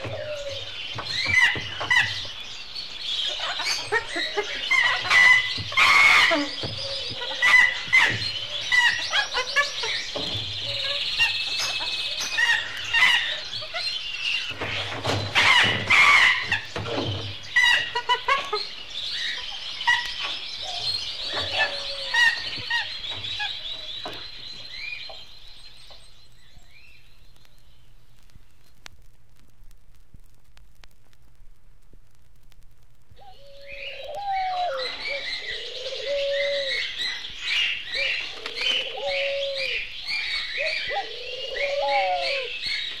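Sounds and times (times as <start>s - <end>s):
small birds chirping and trilling: 0.0s - 28.9s, 33.2s - 43.0s.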